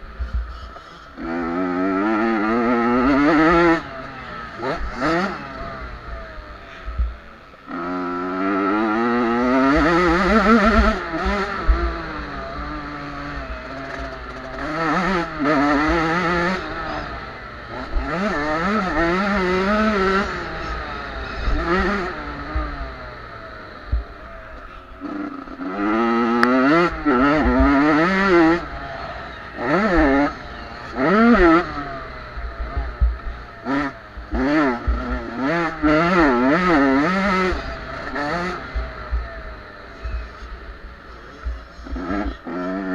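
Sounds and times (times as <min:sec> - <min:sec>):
motocross bikes revving: 0:00.0 - 0:42.9.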